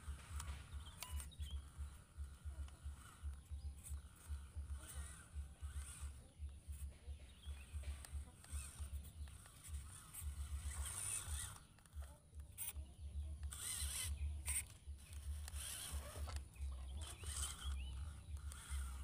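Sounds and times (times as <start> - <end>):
birds chirping: 0.0 - 19.0
choppy low rumble: 0.0 - 19.0.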